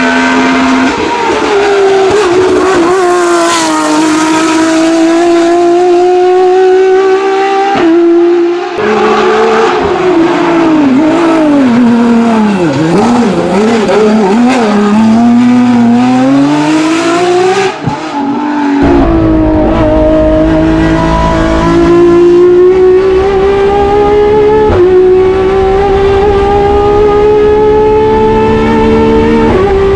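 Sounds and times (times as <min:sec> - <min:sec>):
race car engine revving: 0:00.0 - 0:29.9.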